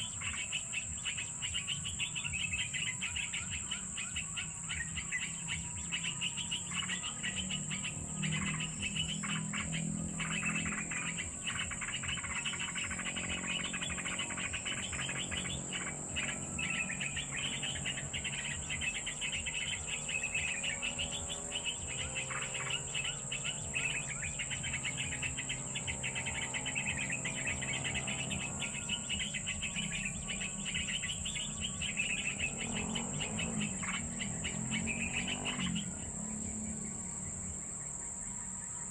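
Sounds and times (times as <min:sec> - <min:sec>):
birds chirping and twittering: 0:00.0 - 0:38.9
high-pitched insect drone: 0:00.0 - 0:38.9.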